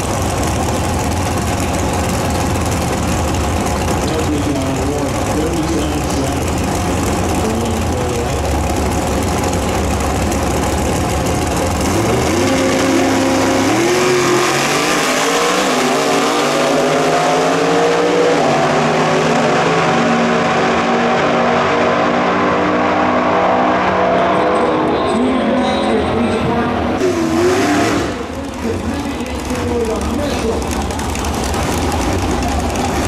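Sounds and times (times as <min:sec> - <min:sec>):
drag cars engines rumbling: 0:00.0 - 0:33.0
engines accelerating: 0:00.0 - 0:33.0.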